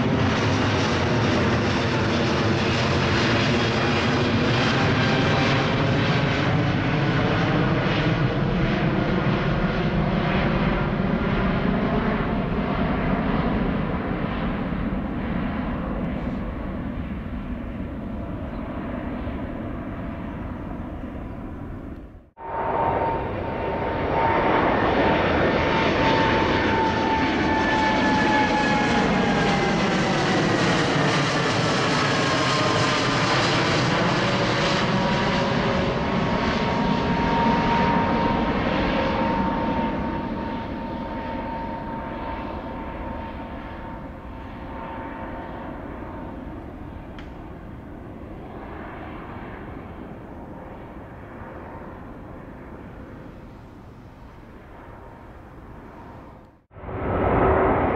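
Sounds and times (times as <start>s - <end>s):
jet engine noise: 0.0s - 57.9s
jet passing overhead with whine: 0.0s - 57.9s.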